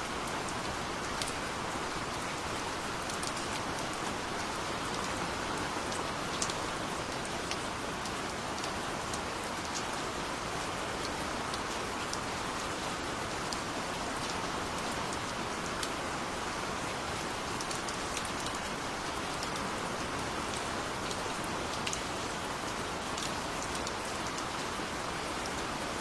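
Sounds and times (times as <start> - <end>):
gentle rain falling: 0.0 - 26.0.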